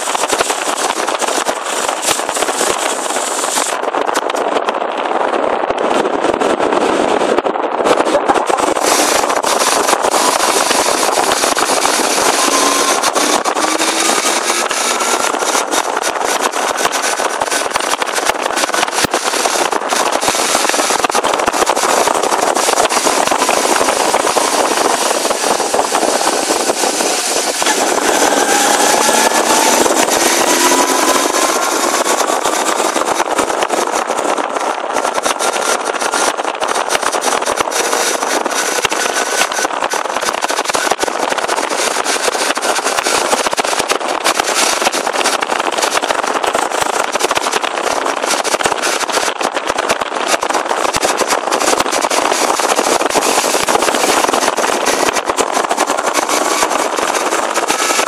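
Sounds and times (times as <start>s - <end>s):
motorcycle engine: 0.0s - 58.0s
wind noise: 0.0s - 58.0s.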